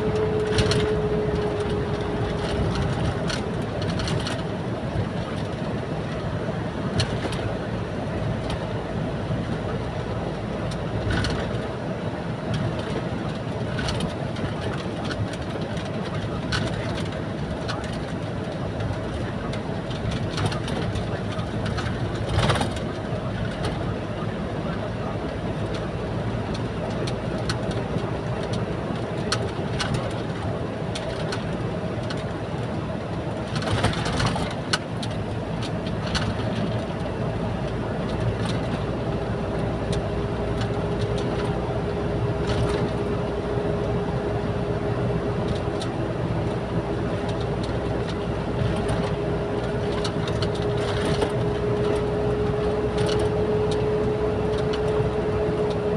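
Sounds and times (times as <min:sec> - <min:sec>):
vehicle engine drone: 0:00.0 - 0:55.9.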